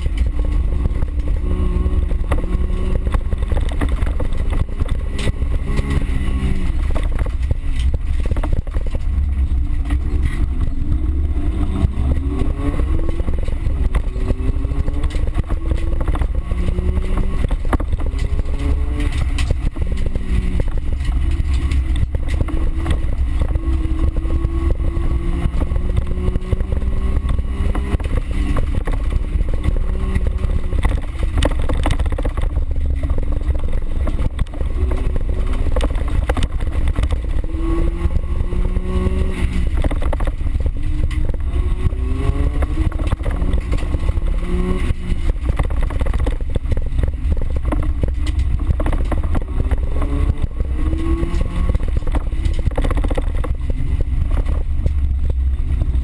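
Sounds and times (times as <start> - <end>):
heavy low rumble of car: 0.0 - 56.0
race car engine revving: 0.0 - 56.0.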